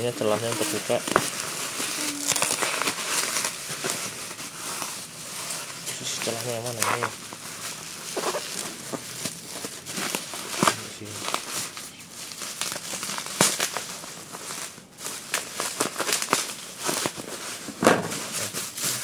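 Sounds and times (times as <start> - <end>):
bubble wrap crinkling: 0.0 - 19.0
bubble wrap snapping: 0.0 - 19.0.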